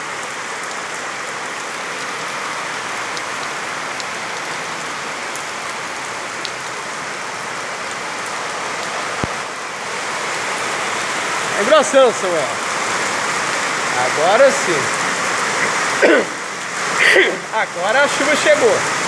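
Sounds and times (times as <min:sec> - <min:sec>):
heavy rain falling: 0:00.0 - 0:19.0
raindrops ticking close by: 0:00.0 - 0:19.0.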